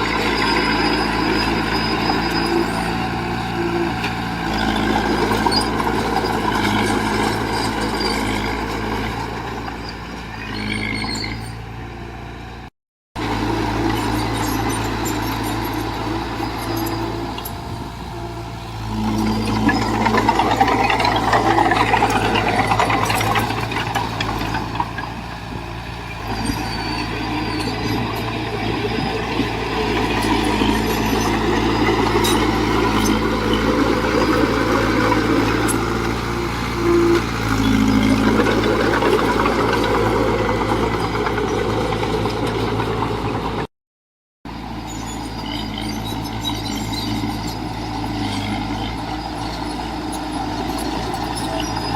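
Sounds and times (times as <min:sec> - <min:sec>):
diesel machinery engine drone: 0:00.0 - 0:43.7, 0:44.5 - 0:51.9.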